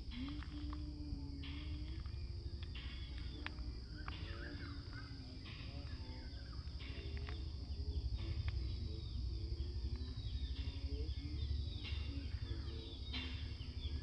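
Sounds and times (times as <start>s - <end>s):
bird chirps: 0.0s - 14.0s
high insect drone: 0.0s - 14.0s
low rumble: 0.0s - 14.0s.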